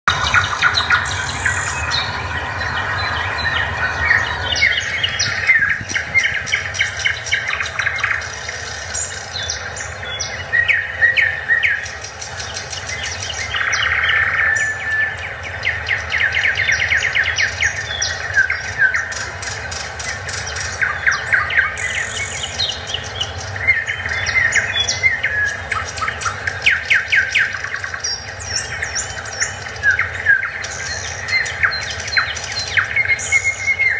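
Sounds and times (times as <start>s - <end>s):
birds chirping and trilling: 0.0s - 33.9s
steady low hum: 0.0s - 33.9s.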